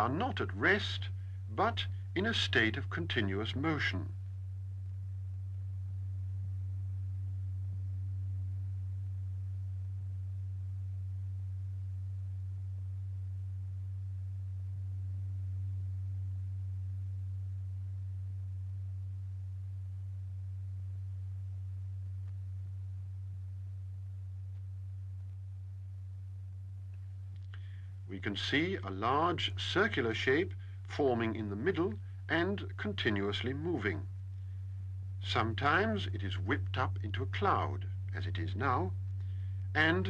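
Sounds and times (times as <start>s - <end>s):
steady low pure tone: 0.0s - 40.0s.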